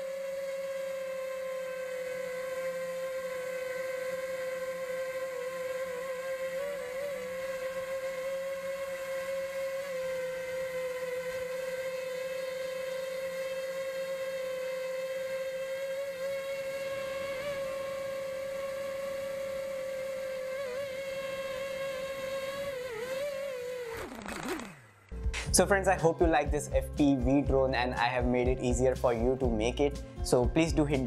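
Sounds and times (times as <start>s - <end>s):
quadcopter propeller whine: 0.0s - 29.6s.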